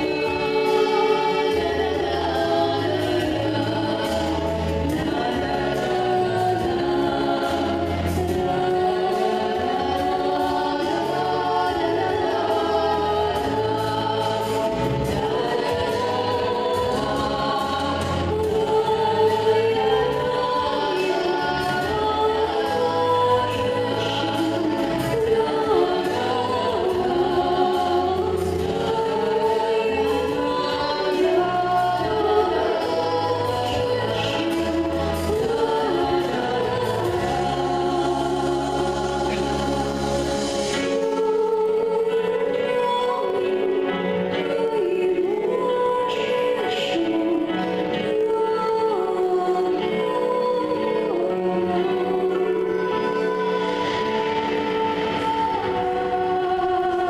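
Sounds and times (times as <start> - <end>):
instrumental music with bass line: 0.0 - 45.7
girls singing in harmony: 0.0 - 57.0.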